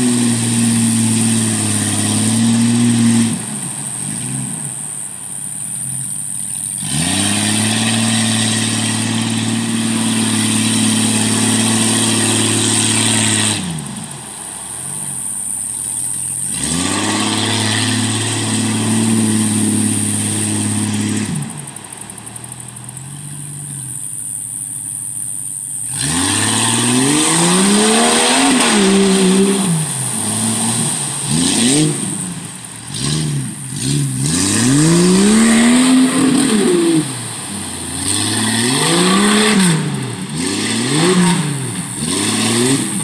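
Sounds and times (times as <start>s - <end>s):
engine revving: 0.0s - 4.9s, 5.5s - 24.4s, 25.1s - 43.0s
tyres churning mud and water: 0.0s - 5.3s, 6.6s - 21.9s, 25.8s - 43.0s.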